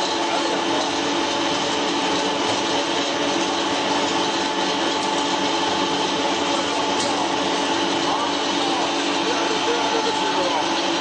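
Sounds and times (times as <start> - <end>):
pellet machine droning: 0.0 - 11.0.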